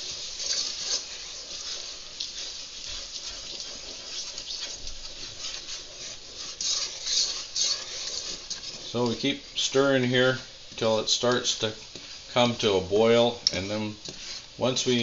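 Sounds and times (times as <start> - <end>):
wooden spoon stirring a saucepan: 0.0 - 15.0.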